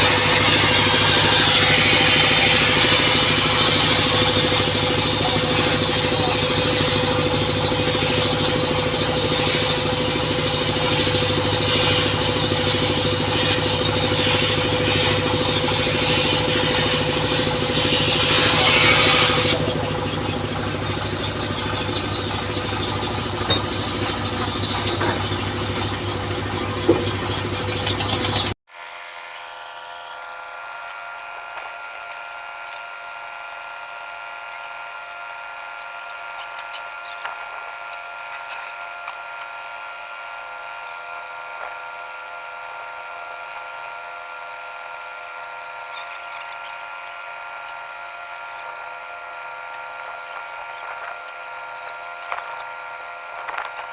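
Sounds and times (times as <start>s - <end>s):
boat engine running: 0.0s - 28.6s, 29.5s - 53.9s
high-pitched steady whine: 0.0s - 28.6s, 29.5s - 53.9s.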